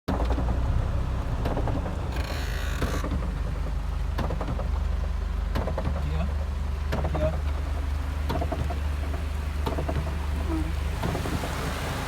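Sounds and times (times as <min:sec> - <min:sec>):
heavy rain falling: 0:00.2 - 0:12.0
steady low rumble: 0:00.2 - 0:12.0.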